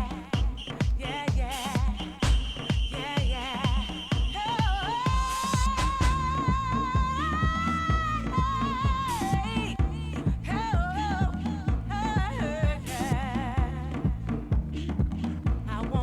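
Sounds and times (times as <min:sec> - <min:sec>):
long sung vocal line: 0:00.0 - 0:14.1
four-on-the-floor kick drum: 0:00.0 - 0:16.0.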